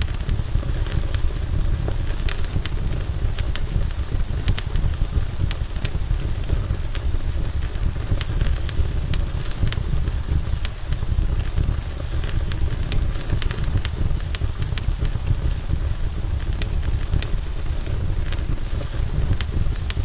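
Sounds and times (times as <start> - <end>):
burning wood popping: 0.0 - 20.0
campfire crackling: 0.0 - 20.0.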